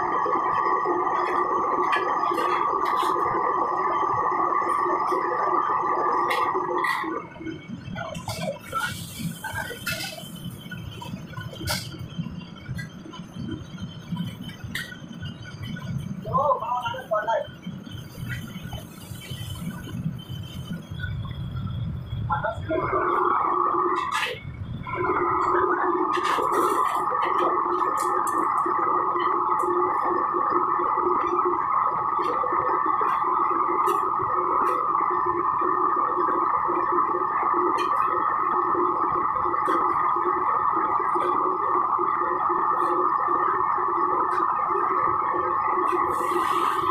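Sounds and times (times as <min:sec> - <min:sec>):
gas burner rumbling: 0:00.0 - 0:46.9.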